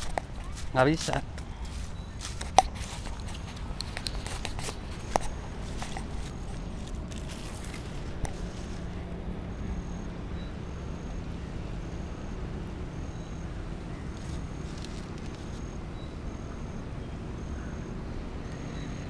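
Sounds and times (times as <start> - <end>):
steady low rumble: 0.0 - 17.2.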